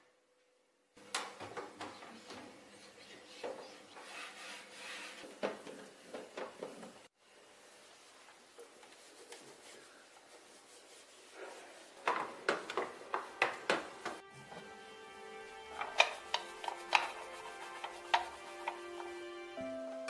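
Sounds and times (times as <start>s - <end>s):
cloth wiping a machine: 2.2s - 19.6s.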